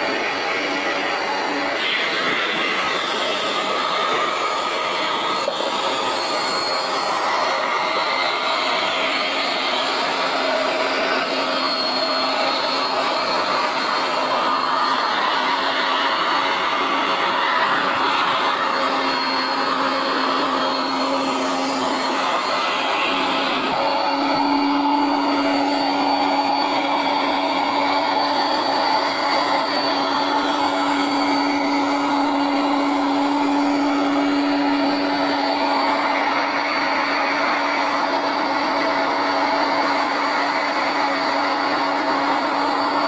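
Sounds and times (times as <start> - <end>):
electric air pump whirring: 0.0 - 43.0.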